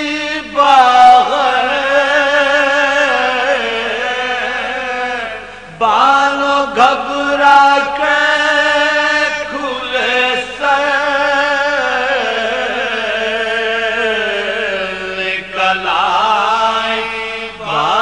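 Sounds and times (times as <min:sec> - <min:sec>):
man chanting mournful elegy: 0:00.0 - 0:18.0.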